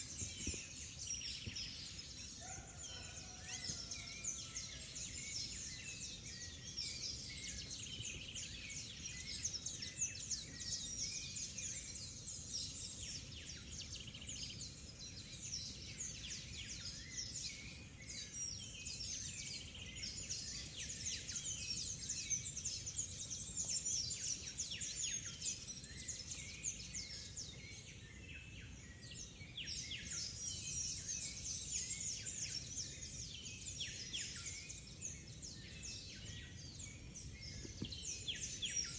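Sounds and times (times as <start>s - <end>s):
birds chirping and trilling: 0.0s - 13.3s, 13.9s - 38.9s.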